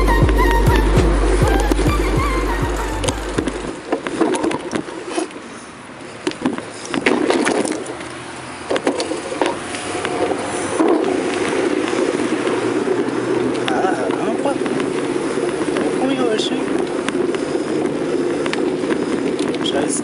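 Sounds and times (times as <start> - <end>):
bicycle tyre road noise: 0.0 - 20.0
bike rattling: 0.0 - 20.0.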